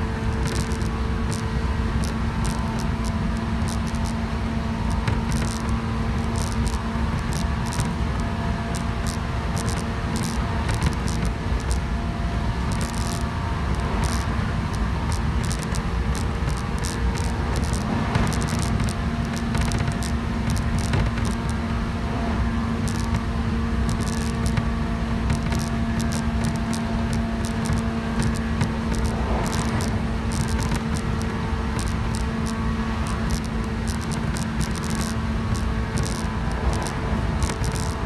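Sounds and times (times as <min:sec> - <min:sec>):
train motor and gear hum: 0:00.0 - 0:38.0
wheel-on-rail rumble: 0:00.0 - 0:38.0.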